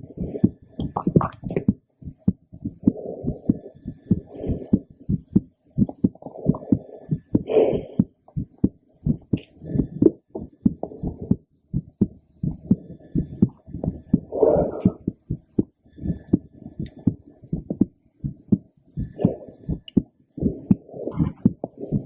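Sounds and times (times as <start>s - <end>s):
heartbeat through stethoscope: 0.0s - 22.0s.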